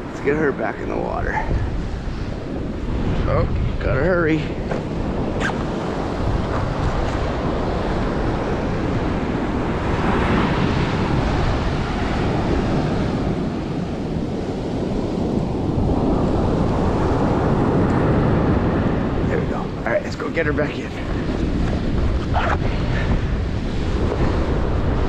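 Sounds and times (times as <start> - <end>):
surf washing up a beach: 0.0 - 25.0
wind buffeting the microphone: 0.0 - 25.0.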